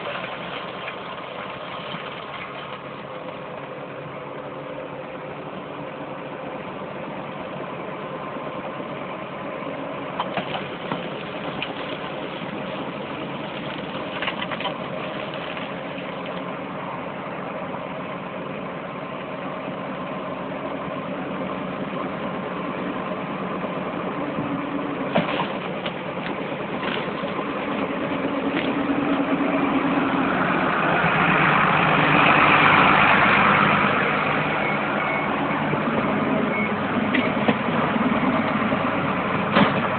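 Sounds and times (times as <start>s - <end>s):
skid steer mulcher running: 0.0s - 39.9s.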